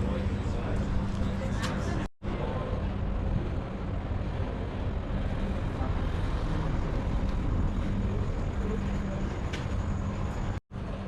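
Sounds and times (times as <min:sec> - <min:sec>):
urban background rumble: 0:00.0 - 0:11.0.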